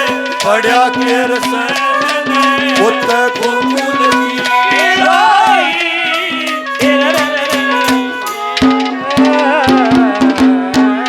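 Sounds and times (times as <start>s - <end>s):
gliding melody line: 0.0s - 10.7s
fast hand-drum strokes: 0.0s - 11.0s.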